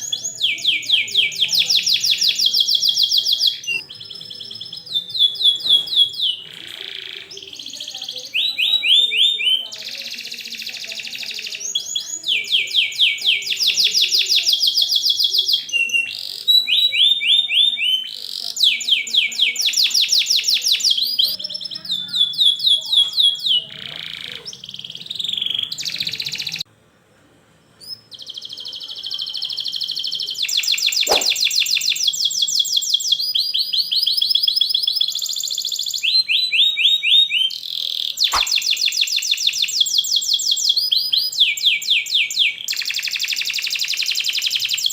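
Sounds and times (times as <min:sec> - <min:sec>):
canary singing trills and chirps: 0:00.0 - 0:26.7, 0:27.8 - 0:44.9.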